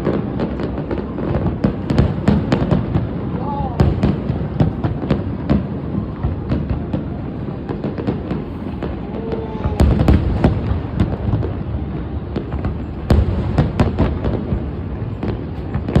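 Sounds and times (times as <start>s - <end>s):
fireworks booming: 0.0s - 16.0s
fireworks cracks and pops: 0.0s - 16.0s.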